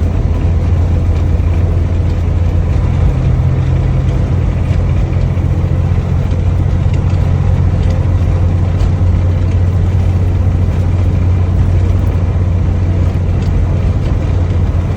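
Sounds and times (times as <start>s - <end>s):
road noise: 0.0s - 14.9s
truck engine drone: 0.0s - 14.9s.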